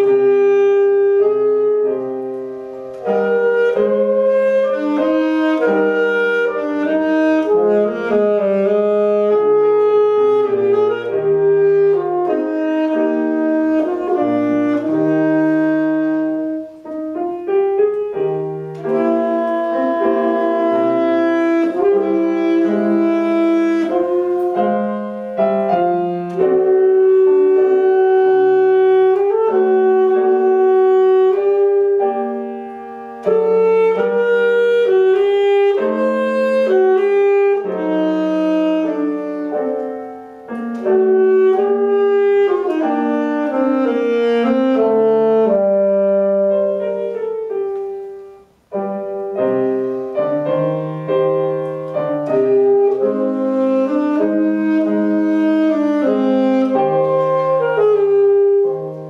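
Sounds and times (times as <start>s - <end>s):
alto saxophone: 0.0s - 59.0s
piano chords: 0.0s - 59.0s.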